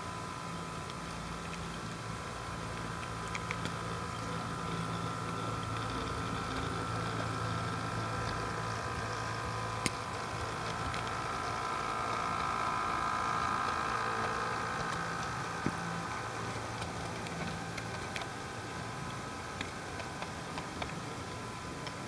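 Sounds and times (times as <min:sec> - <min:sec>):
model train motor humming: 0:00.0 - 0:22.0.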